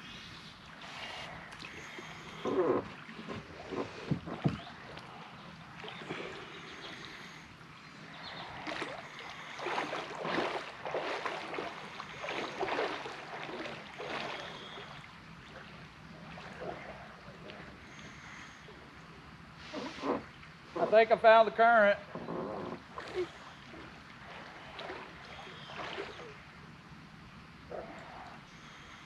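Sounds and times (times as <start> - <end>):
water lapping against boat: 0.0 - 26.8.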